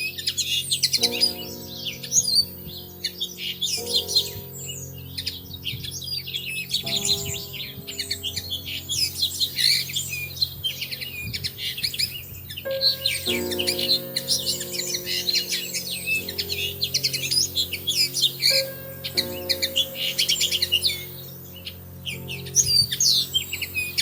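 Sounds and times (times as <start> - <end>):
soft background music: 0.0 - 24.0
songbirds chirping: 0.0 - 24.0.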